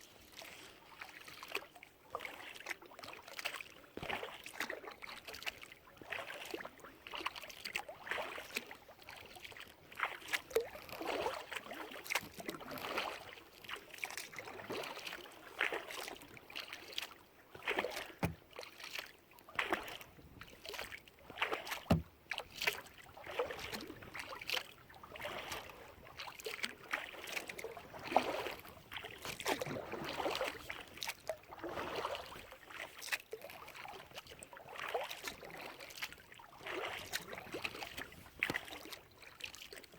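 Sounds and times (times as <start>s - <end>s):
paddle splashing through water: 0.0s - 39.9s.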